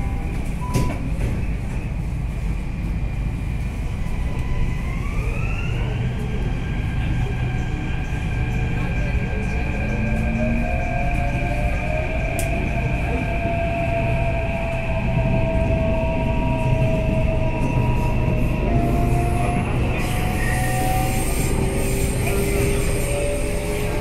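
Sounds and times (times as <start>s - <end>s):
rumble of train wheels on track: 0.0s - 24.0s.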